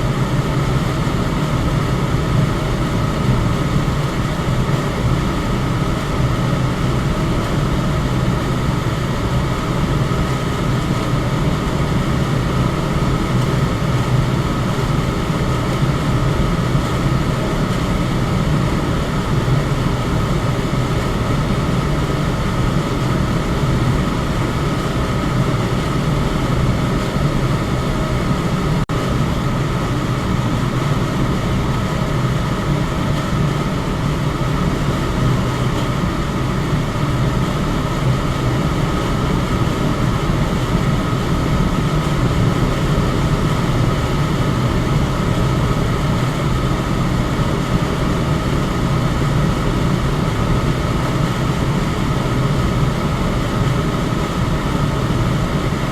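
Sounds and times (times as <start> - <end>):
electric fan running: 0.0 - 55.9.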